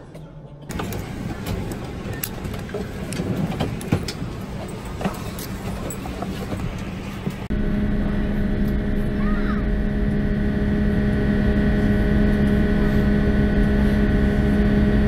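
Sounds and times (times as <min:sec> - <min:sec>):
airliner cabin engine hum: 0:00.7 - 0:15.0.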